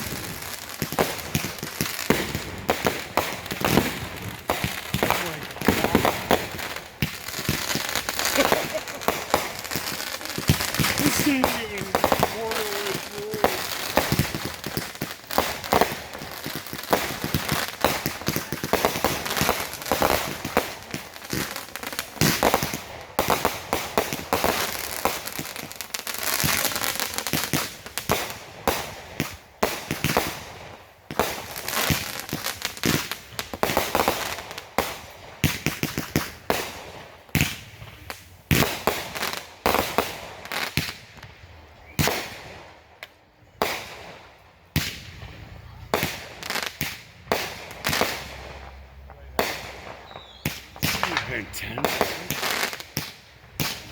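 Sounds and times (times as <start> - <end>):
fireworks banging and crackling: 0.0 - 53.9.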